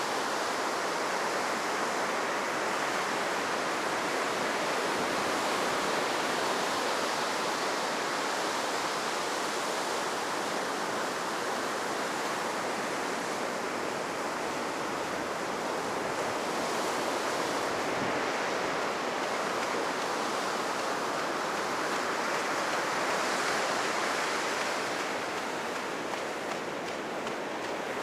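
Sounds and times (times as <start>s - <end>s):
ocean surf breaking: 0.8s - 28.0s.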